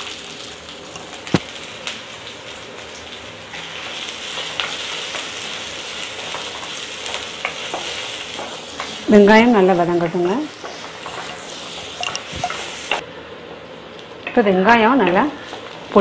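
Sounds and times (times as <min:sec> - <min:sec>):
shallots sizzling in oil: 0:00.0 - 0:13.0, 0:14.0 - 0:16.0.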